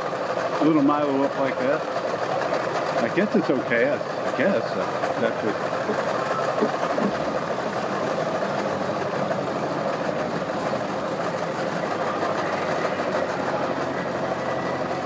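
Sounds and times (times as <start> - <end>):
motorboat engine idling: 0.0 - 15.0.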